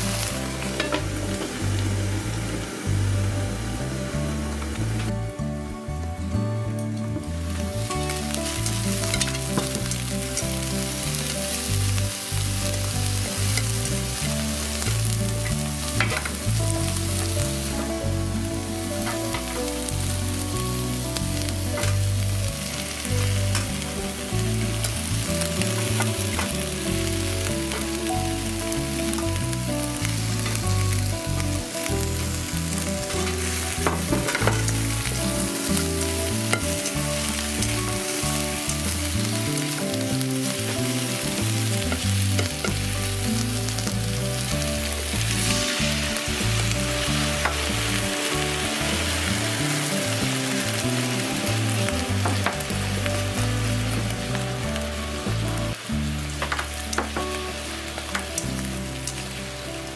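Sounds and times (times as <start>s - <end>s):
food sizzling in oil: 0.0s - 5.6s, 7.2s - 59.9s.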